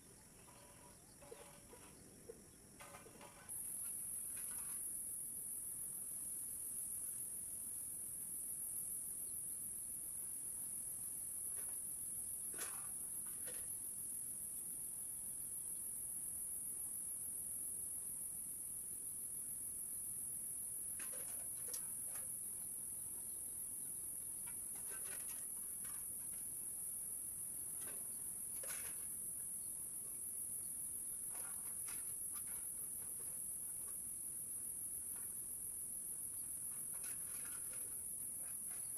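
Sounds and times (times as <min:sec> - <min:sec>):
crickets chirping chorus: 0:00.0 - 0:38.9.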